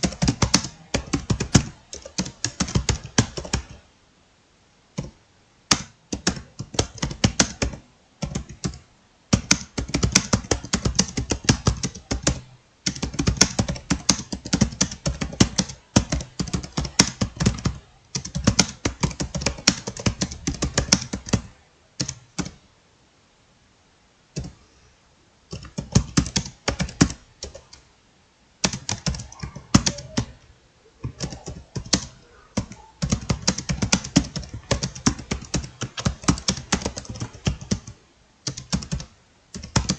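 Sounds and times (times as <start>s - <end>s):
fast keyboard typing: 0.0s - 3.8s, 5.0s - 22.6s, 24.4s - 24.6s, 25.5s - 27.8s, 28.6s - 30.4s, 31.0s - 39.9s.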